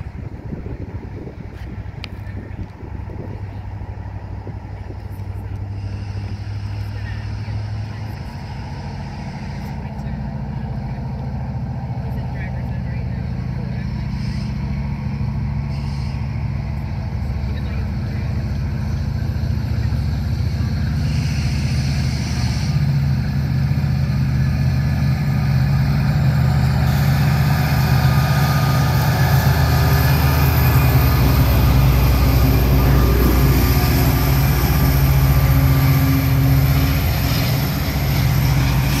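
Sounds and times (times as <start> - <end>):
diesel locomotive engine running: 0.0 - 39.0
train wheels rolling on rails: 0.0 - 39.0.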